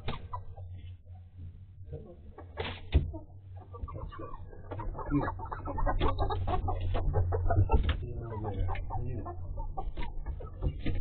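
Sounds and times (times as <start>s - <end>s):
hens clucking: 0.0s - 1.4s, 2.0s - 11.0s.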